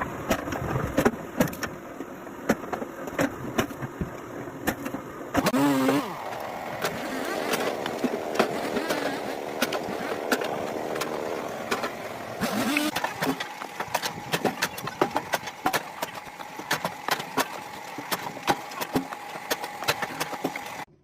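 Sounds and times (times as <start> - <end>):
engine running: 0.0 - 21.0
sharp cracks and knocks: 0.3 - 1.8, 2.4 - 20.9.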